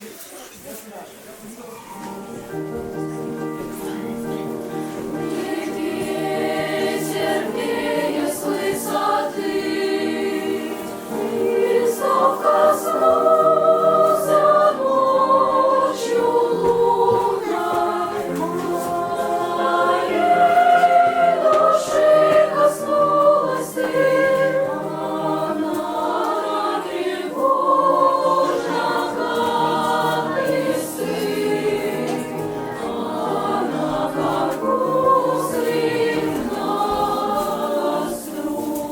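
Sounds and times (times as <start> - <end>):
children's choir singing: 1.9 - 38.9.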